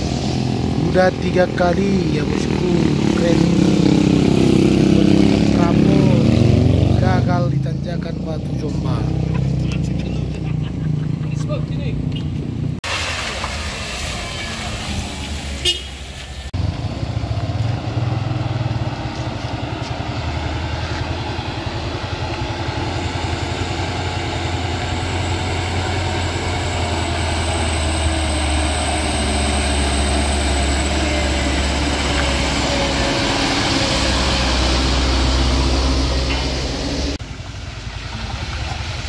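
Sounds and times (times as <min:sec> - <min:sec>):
diesel truck engine droning: 0:00.0 - 0:39.0.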